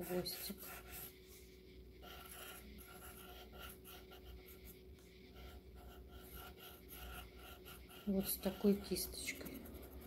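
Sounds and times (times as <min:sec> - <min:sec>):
pencil scratching on paper: 0:00.0 - 0:10.0
thin steady hum: 0:00.0 - 0:10.0.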